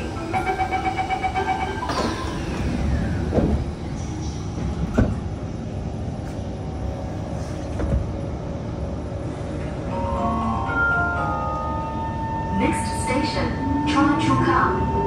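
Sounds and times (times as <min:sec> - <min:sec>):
train car low rumble: 0:00.0 - 0:15.0.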